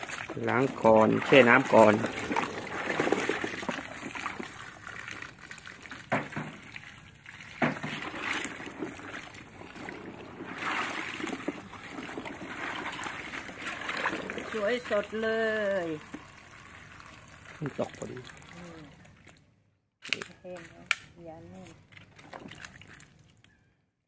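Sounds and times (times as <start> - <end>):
hose water splashing into basin: 0.0 - 19.4, 22.0 - 23.4.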